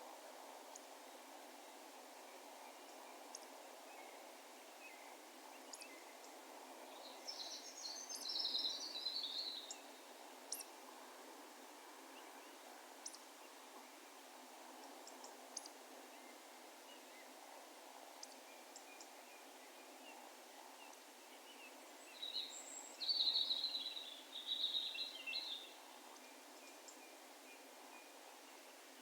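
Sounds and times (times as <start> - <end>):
faint rural background hiss: 0.0 - 29.0.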